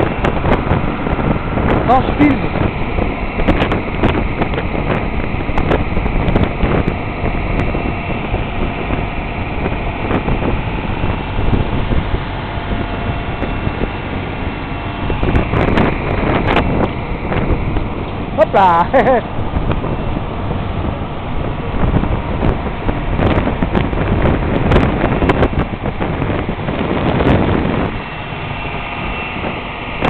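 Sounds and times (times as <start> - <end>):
boat engine running: 0.0 - 30.0
rushing wake water: 0.0 - 30.0
wind buffeting microphone: 0.0 - 30.0.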